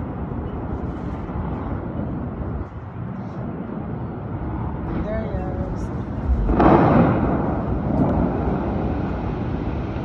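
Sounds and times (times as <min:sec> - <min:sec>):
distant street traffic: 0:00.0 - 0:10.0
wind: 0:00.0 - 0:10.0.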